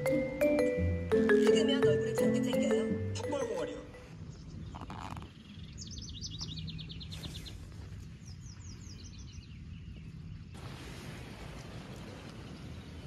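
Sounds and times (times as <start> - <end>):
songbird singing: 0.0 - 10.6.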